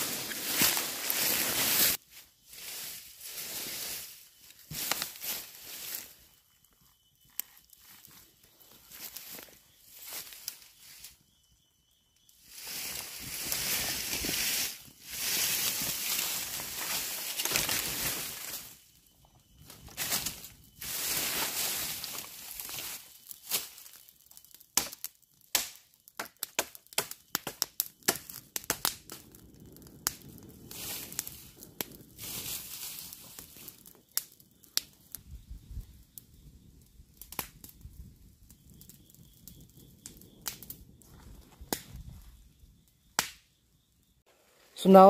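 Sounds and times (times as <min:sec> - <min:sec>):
campfire crackling and popping: 0:00.0 - 0:02.0, 0:02.6 - 0:11.6, 0:12.2 - 0:43.5.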